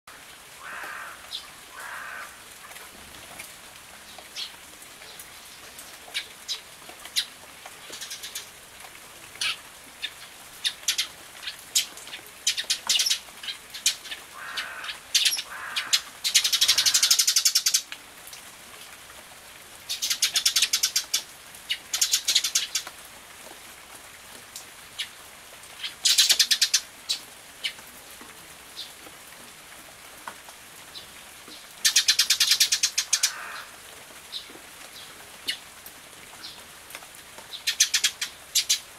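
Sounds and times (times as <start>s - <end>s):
rain hiss: 0.1s - 38.9s.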